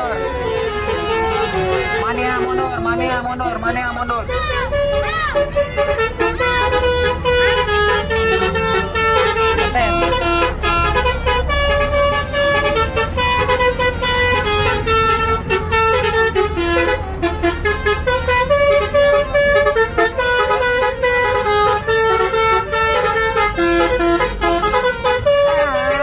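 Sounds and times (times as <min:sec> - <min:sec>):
bus engine running: 0:00.0 - 0:26.0
bus horn playing a tune: 0:00.0 - 0:26.0.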